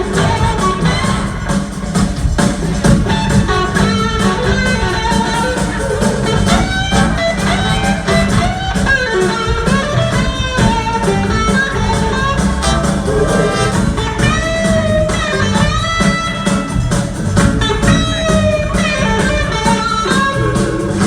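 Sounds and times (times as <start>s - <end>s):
electric guitar line: 0.0s - 21.0s
rock blues band playing: 0.0s - 21.0s.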